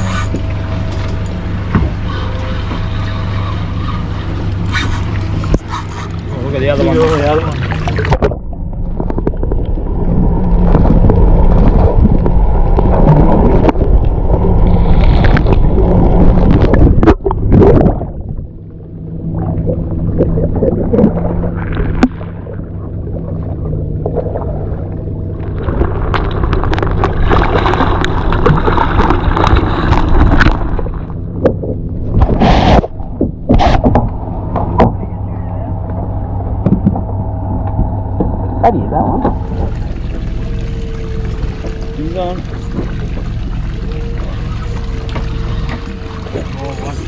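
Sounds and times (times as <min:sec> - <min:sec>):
boat motor humming: 0:00.0 - 0:47.0
water gurgling and sloshing: 0:00.0 - 0:47.0.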